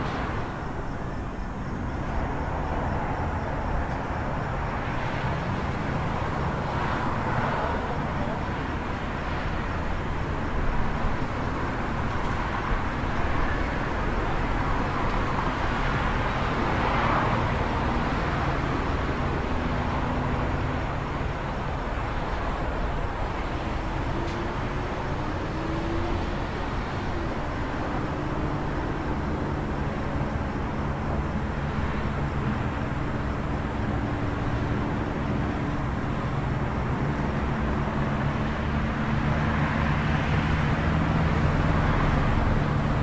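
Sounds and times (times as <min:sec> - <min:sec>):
road traffic noise: 0:00.0 - 0:43.0.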